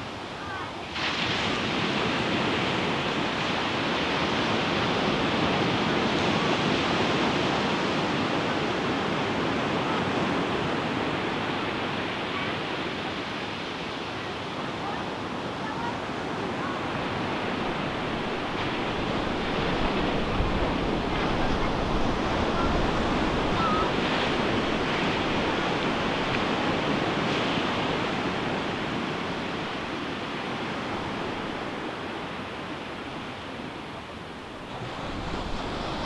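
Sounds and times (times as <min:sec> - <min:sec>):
ocean waves breaking: 0:00.0 - 0:36.0.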